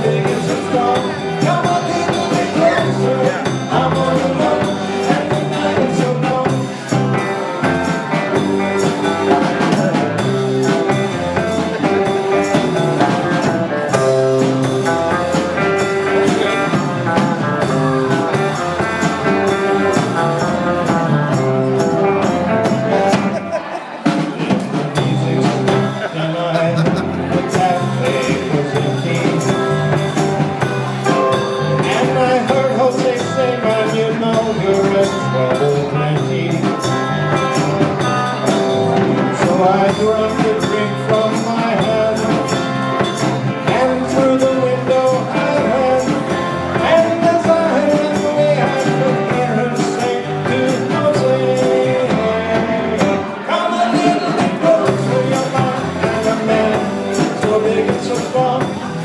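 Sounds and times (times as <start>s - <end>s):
live rock and roll band: 0.0s - 59.0s.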